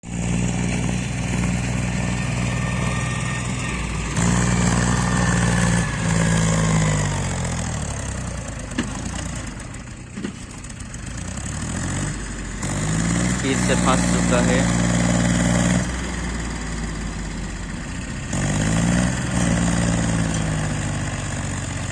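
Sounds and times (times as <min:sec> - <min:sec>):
tractor diesel engine revving: 0:00.0 - 0:21.9.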